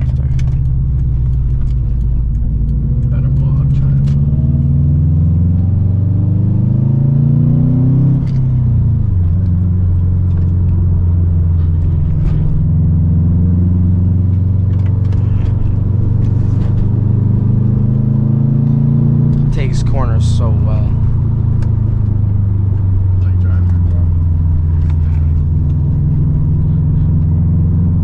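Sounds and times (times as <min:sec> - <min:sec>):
car engine revving while driving: 0:00.0 - 0:28.0.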